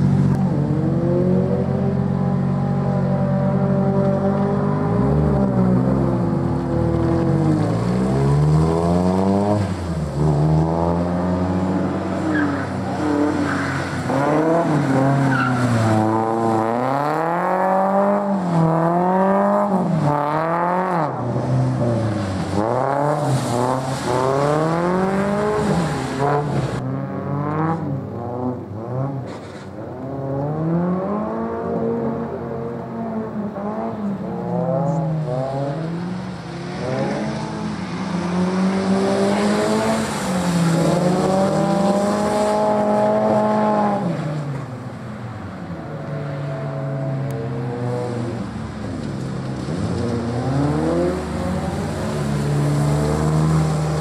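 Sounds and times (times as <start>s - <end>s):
race car engine revving: 0.0s - 44.6s
tyres skidding on wet track: 0.0s - 54.0s.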